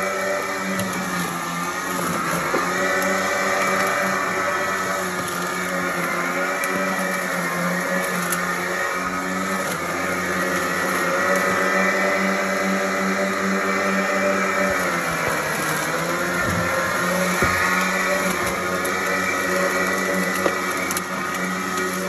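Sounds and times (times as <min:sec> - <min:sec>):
electric lawn mower whining: 0:00.0 - 0:22.0.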